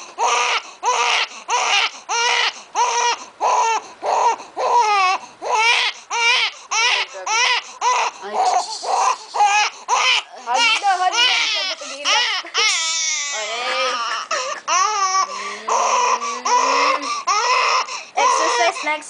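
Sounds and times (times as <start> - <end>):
infant crying: 0.1 - 19.0.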